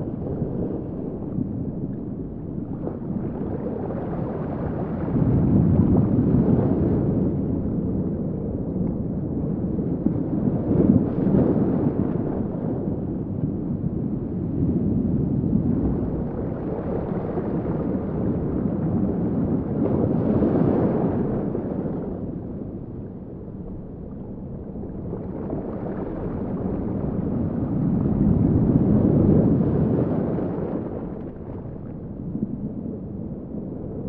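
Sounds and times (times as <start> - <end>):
muffled underwater rush: 0.0 - 34.0.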